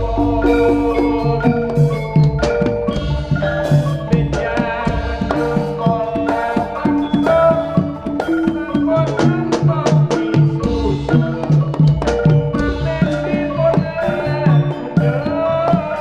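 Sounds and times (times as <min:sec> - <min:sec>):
hand drums beating: 0:00.0 - 0:16.0
ringing metallophone notes: 0:00.0 - 0:16.0.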